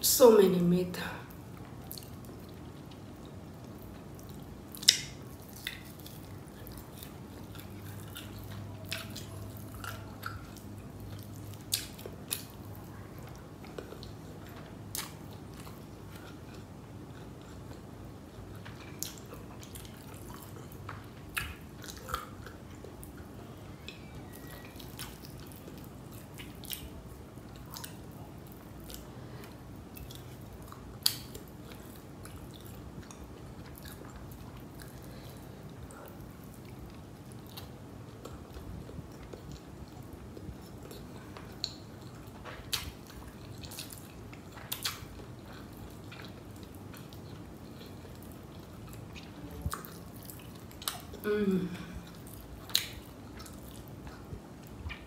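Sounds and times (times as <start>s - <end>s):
wet chewing mouth sounds: 1.5s - 55.0s.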